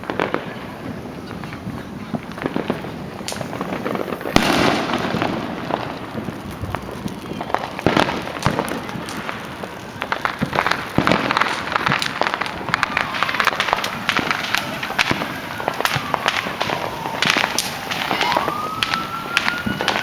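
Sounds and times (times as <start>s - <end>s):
firecrackers cracking: 0.0s - 20.0s
firework boom: 0.0s - 20.0s.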